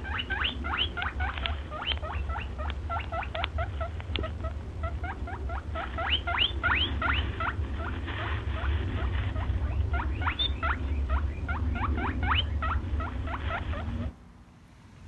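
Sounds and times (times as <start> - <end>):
squeaky animal calls: 0.0 - 7.6, 8.6 - 14.1
low rumble: 0.0 - 14.2.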